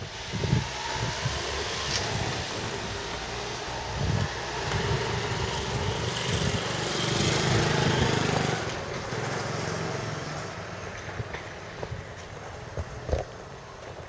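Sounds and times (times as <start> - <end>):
vehicle passing by: 0.1 - 12.0.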